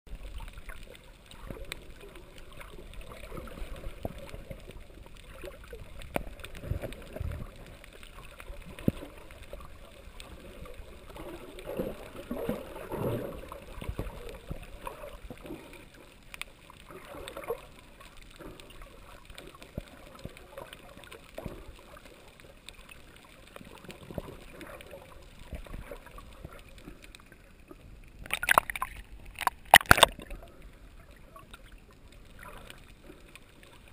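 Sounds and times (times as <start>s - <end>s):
underwater water noise: 0.1s - 33.9s
water splashing: 0.1s - 33.9s
faint clicks: 0.2s - 10.7s, 13.9s - 33.9s.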